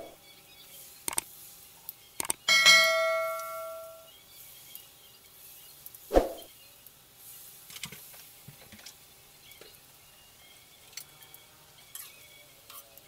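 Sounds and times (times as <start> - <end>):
food deep-frying in oil: 0.2 - 2.8, 3.4 - 13.0.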